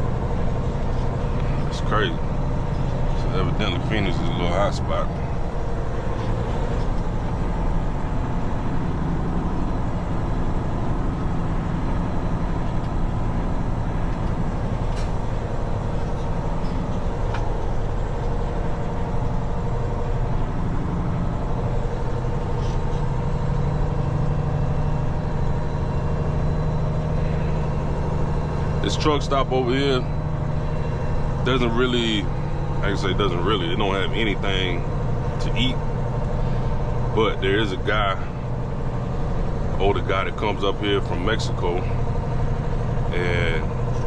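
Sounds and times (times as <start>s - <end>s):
truck diesel engine from inside cab: 0.0s - 44.0s.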